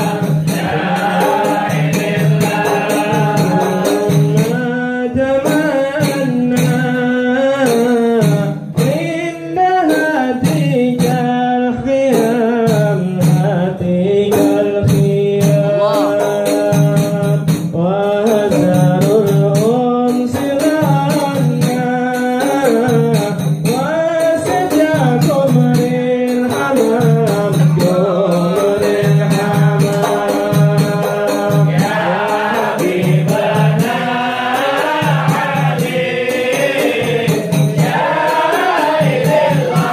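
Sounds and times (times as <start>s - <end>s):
hand percussion rhythm: 0.0s - 39.9s
men singing together: 0.0s - 39.9s.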